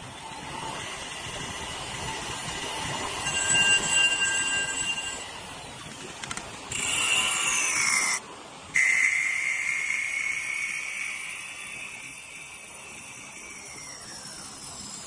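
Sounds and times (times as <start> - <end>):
wood lathe cutting whine: 0.0 - 5.7, 6.7 - 8.2, 8.8 - 15.0.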